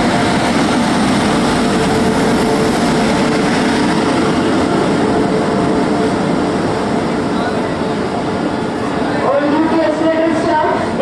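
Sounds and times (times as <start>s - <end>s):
train rumbling with hum: 0.0s - 11.0s.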